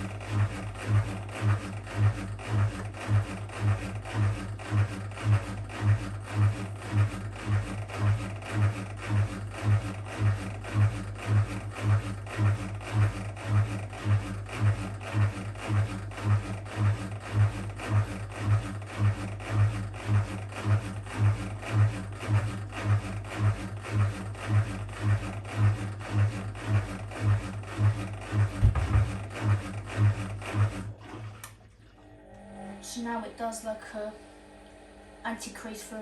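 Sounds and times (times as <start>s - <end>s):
drain pump humming and chugging: 0.0s - 36.0s
washing machine spinning: 0.0s - 36.0s.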